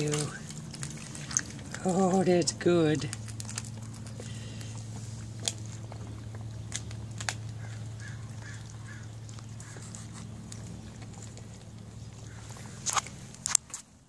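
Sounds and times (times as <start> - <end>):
puppies lapping from metal bowl: 0.0 - 13.5
low hum: 0.0 - 14.0.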